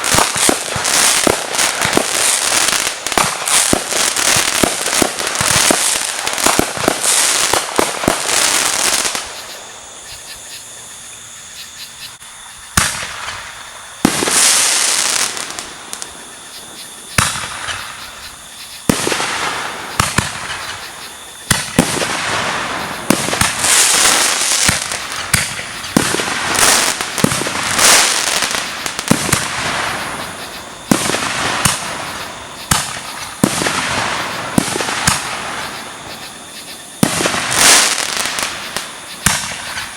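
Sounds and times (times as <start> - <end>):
fireworks bursting with bangs: 0.0 - 11.3, 12.6 - 39.9
fireworks crackling: 0.0 - 11.4, 12.7 - 39.9.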